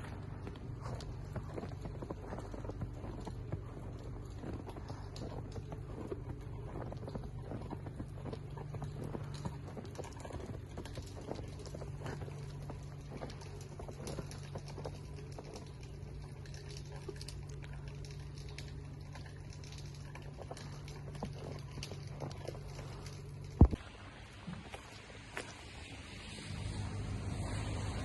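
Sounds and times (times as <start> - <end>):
footsteps on snow: 0.0 - 18.3, 19.1 - 28.0
steady low hum: 0.0 - 28.0.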